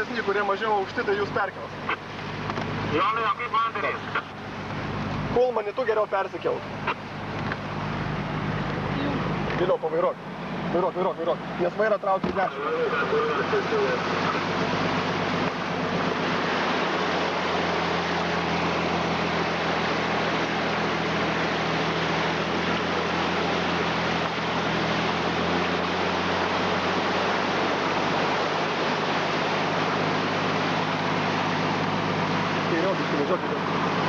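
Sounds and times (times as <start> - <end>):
engine humming at low revs: 0.0 - 34.0
water rushing and splashing: 0.0 - 34.0.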